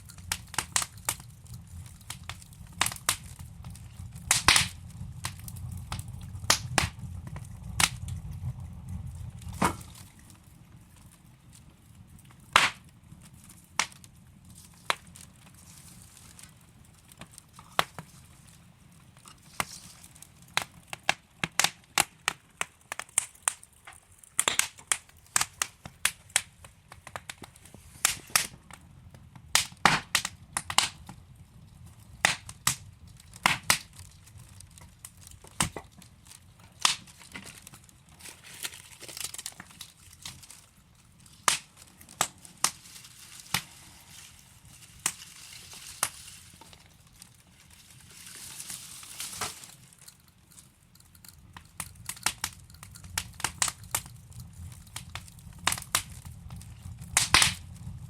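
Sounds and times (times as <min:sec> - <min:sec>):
low steady hiss: 0:00.0 - 0:58.0
wood fire crackling: 0:00.0 - 0:58.0.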